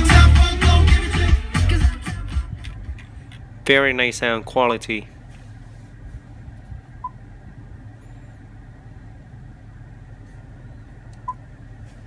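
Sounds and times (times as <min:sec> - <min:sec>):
low cabin hum: 0:00.0 - 0:12.0.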